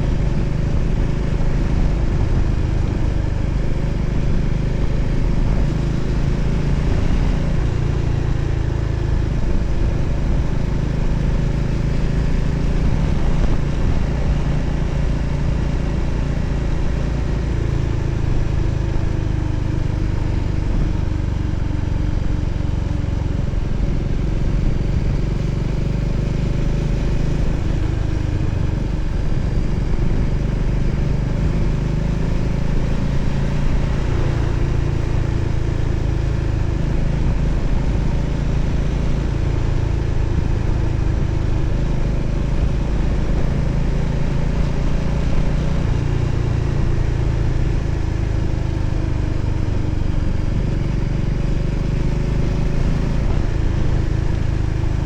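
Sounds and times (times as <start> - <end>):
wind noise: 0.0 - 16.9, 23.1 - 48.0, 49.4 - 55.0
motorcycle engine running: 0.0 - 55.0.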